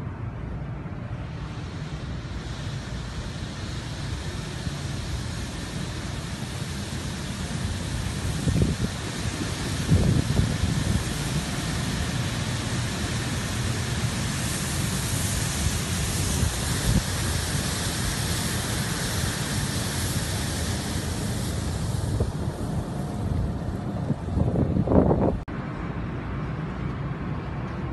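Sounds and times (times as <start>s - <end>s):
wind buffeting microphone: 1.6s - 25.5s.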